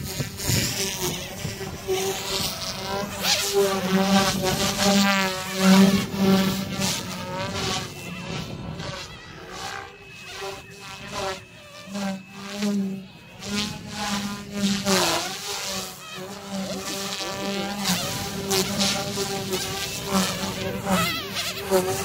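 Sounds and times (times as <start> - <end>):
electric rc helicopter buzzing: 0.0 - 22.0.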